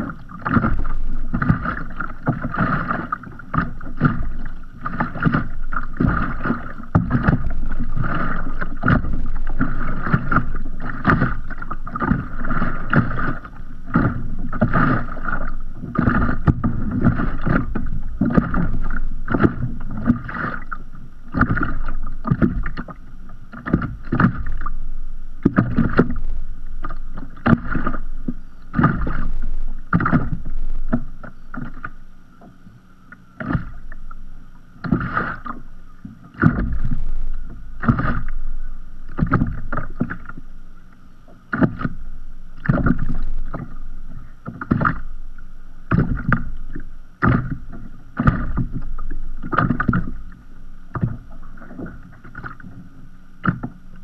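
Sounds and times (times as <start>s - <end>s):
waves lapping against kayak hull: 0.0s - 54.0s.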